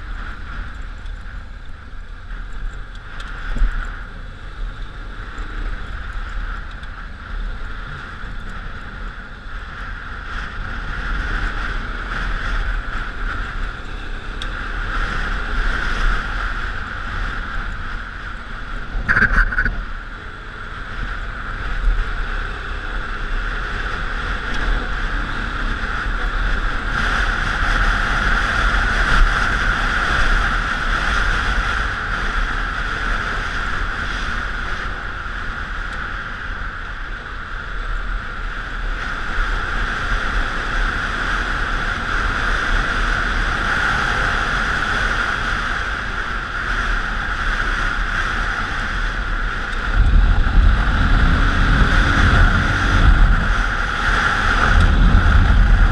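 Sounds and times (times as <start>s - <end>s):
motorcycle engine running: 0.0s - 55.9s
wind rush on microphone: 0.0s - 55.9s.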